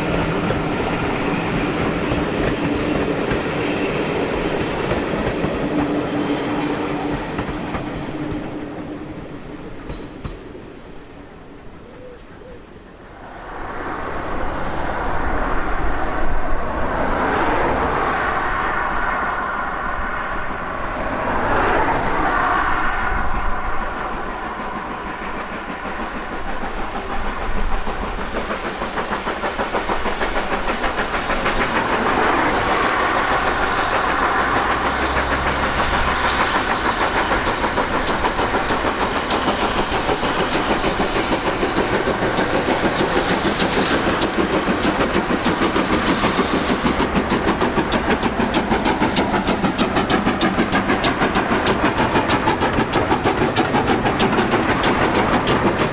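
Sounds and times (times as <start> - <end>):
train running: 0.0 - 55.9.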